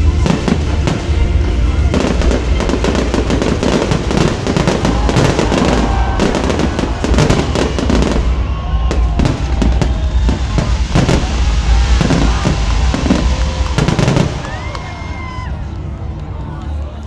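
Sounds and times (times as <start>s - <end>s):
fireworks bangs and crackling: 0.0s - 16.3s
low rumble: 0.0s - 16.8s.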